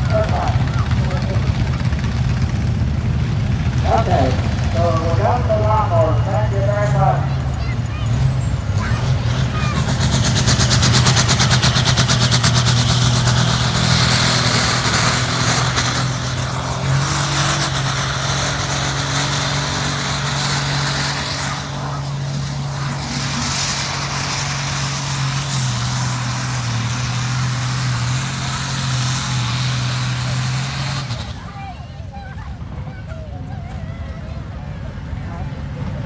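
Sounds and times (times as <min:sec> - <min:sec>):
tractor engine at high revs: 0:00.0 - 0:36.0.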